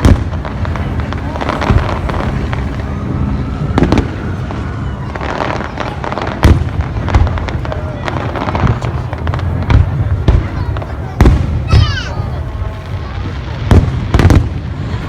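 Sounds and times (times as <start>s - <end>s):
fireworks booming: 0.0s - 15.0s
fireworks crackling: 0.0s - 15.0s.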